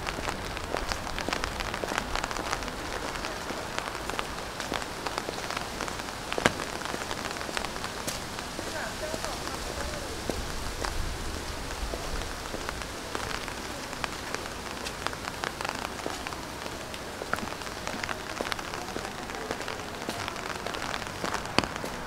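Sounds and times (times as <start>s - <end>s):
rain on stone and bamboo: 0.0s - 22.0s.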